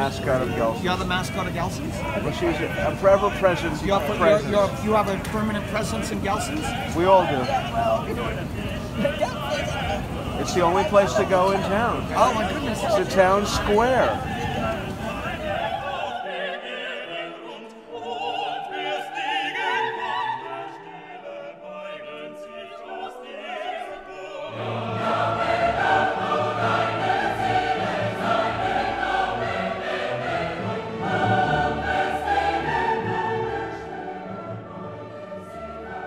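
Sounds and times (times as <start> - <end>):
operatic singing with orchestra: 0.0 - 36.0.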